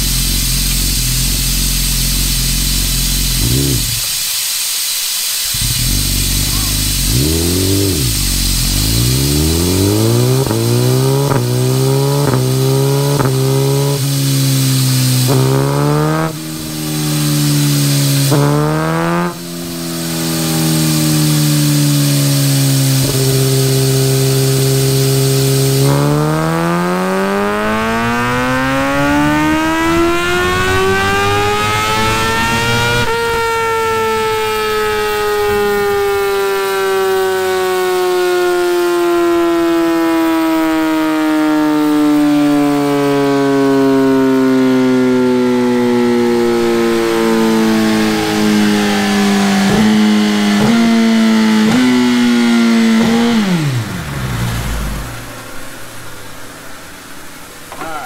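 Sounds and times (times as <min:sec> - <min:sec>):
motorcycle engine revving: 0:00.0 - 0:56.2.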